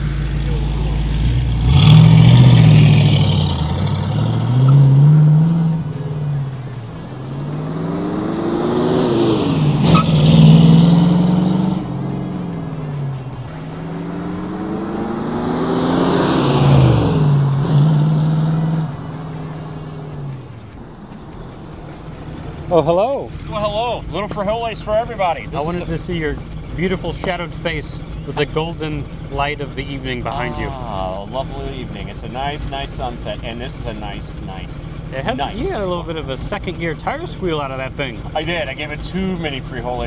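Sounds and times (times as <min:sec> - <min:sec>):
car engine revving past: 0:00.0 - 0:40.0.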